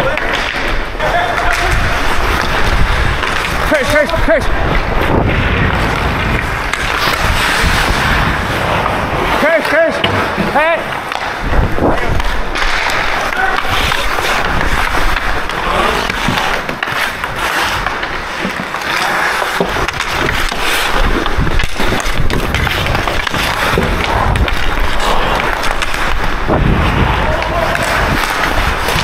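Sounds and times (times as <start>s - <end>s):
stick hitting puck: 0.0s - 8.0s, 8.8s - 29.0s
skate blades scraping on ice: 0.0s - 29.0s.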